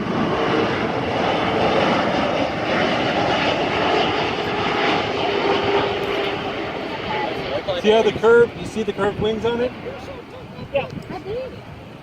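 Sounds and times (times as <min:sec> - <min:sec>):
jet engines of passing plane: 0:00.0 - 0:12.0.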